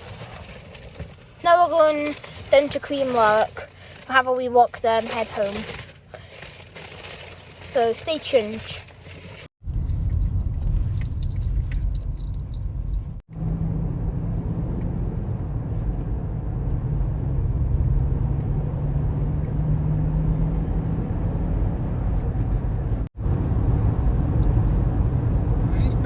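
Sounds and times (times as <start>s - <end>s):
car tyre and engine rumble: 0.0s - 26.0s.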